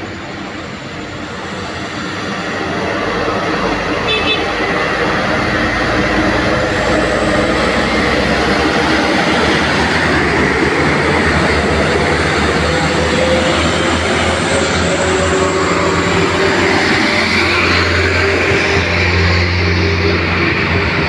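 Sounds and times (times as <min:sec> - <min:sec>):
diesel truck engine hum: 0:00.0 - 0:21.0
road noise: 0:00.0 - 0:21.0.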